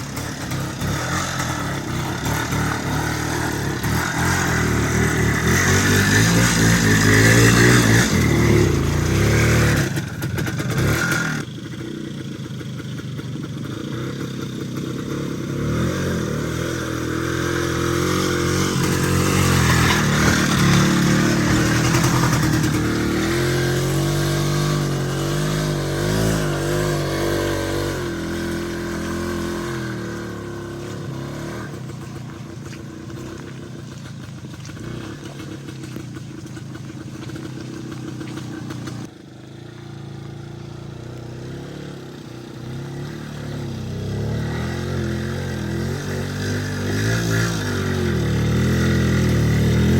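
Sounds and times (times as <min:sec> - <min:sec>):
vehicle engine revving: 0:00.0 - 0:12.2, 0:13.5 - 0:49.9.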